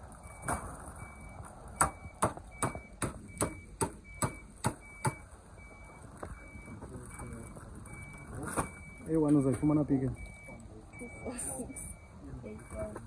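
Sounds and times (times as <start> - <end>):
faint short beep: 0.3 - 13.0.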